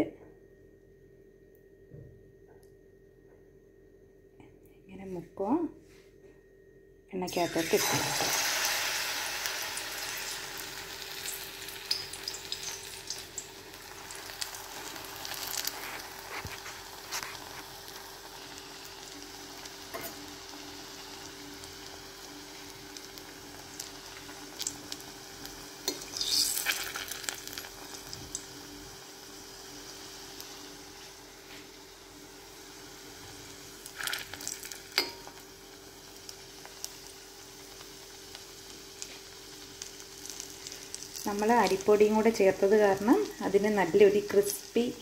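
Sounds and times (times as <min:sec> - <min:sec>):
deep-frying sizzle with pops: 0:07.2 - 0:45.0.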